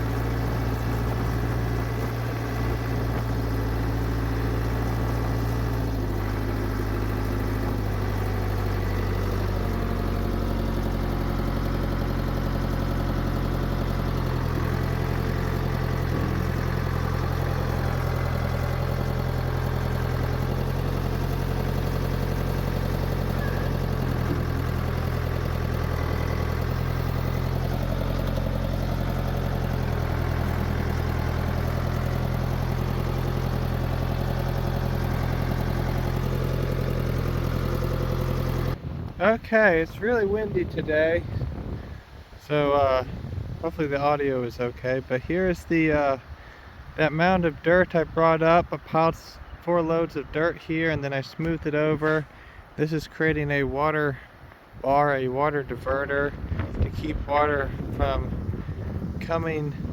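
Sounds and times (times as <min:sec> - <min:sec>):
heavy farm machine engine running: 0:00.0 - 0:59.9.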